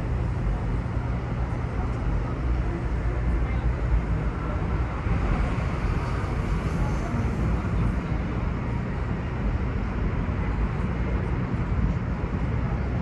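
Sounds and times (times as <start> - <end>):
low rumble of traffic: 0.0 - 13.0
faint murmur of voices: 0.3 - 13.0.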